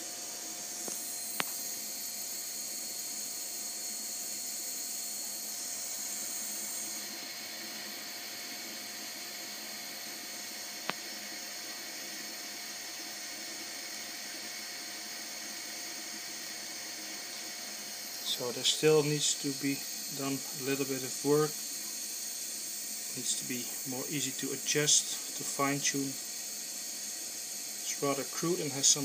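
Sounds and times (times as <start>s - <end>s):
machine hiss and whine: 0.0s - 29.0s.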